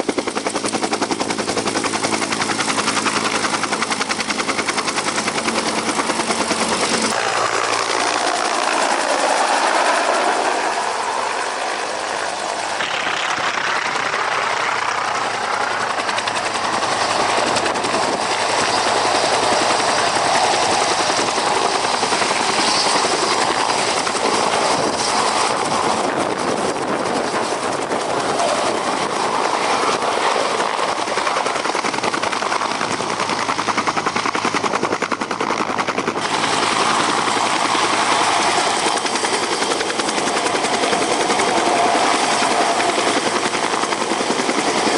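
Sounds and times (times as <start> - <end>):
helicopter engine noise: 0.0 - 44.9
helicopter rotor chopping: 0.0 - 44.9.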